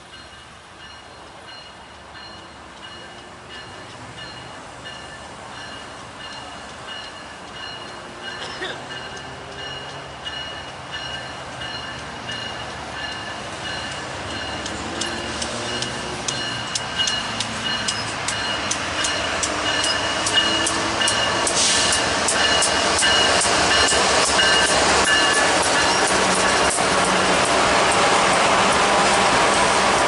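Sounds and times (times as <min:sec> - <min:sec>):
diesel locomotives rolling past: 0:00.0 - 0:30.0
wheels clicking on rail: 0:00.8 - 0:30.0.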